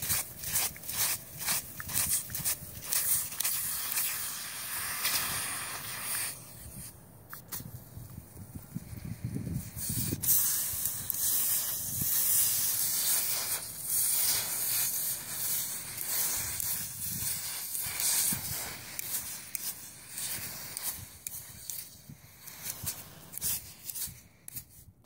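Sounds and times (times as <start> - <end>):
hot metal hissing in snow: 0.0 - 7.0, 8.5 - 24.9.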